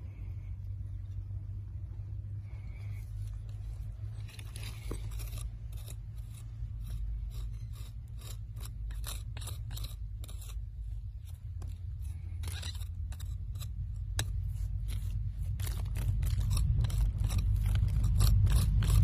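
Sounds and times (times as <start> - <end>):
steady low hum: 0.0 - 19.0
scratching through gritty sand: 2.6 - 19.0.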